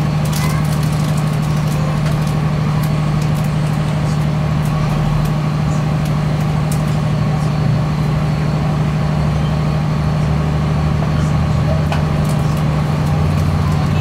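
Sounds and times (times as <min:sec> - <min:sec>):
air conditioning drone: 0:00.0 - 0:14.0
diesel engine idling: 0:00.0 - 0:14.0.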